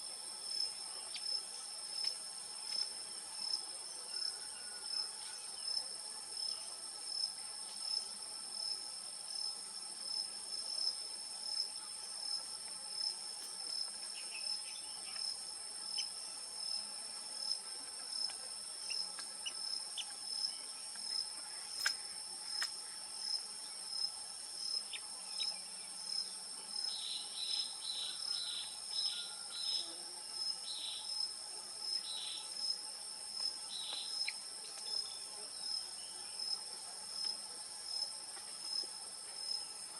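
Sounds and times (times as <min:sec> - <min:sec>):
pulsing insect chorus: 0:00.0 - 0:39.9.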